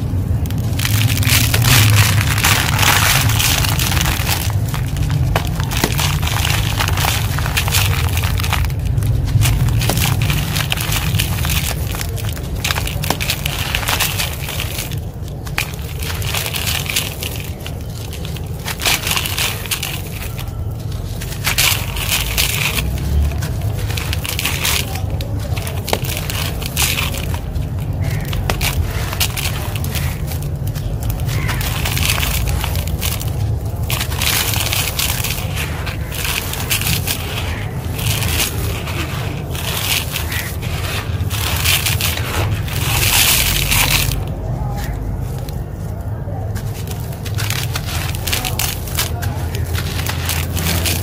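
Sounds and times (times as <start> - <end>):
concrete crumbling: 0.0 - 51.0
grit falling into plastic sieve: 0.5 - 44.3, 46.5 - 51.0.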